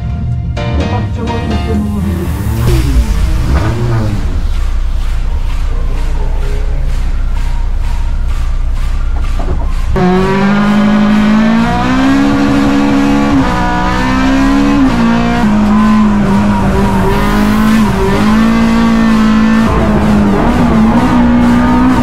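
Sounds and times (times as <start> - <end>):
music: 0.0 - 22.0
race car engine revving: 1.6 - 22.0.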